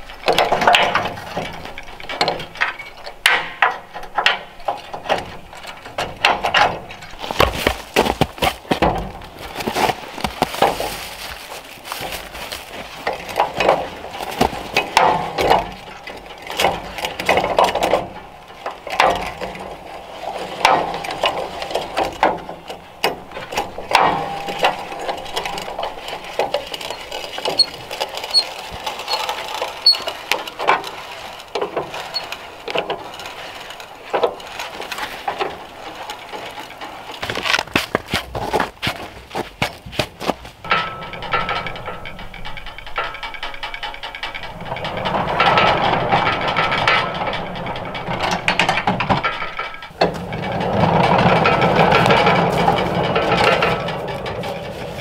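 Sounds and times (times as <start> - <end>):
hand-cranked jack clicking and scraping: 0.0 - 55.0.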